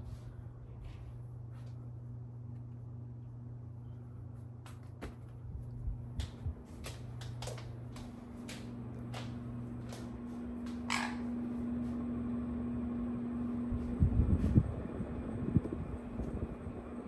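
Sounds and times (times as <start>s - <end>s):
ceiling fan motor humming: 0.0s - 17.0s.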